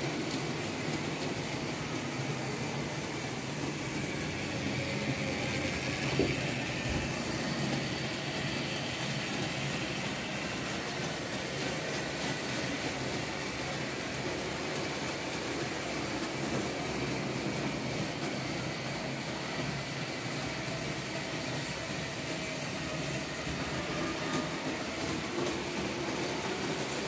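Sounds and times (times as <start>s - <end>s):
model trains rolling on track: 0.0s - 27.0s.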